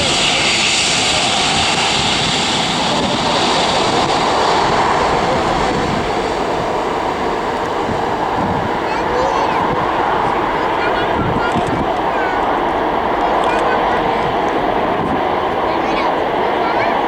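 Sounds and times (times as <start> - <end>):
cargo plane engine: 0.0 - 17.0.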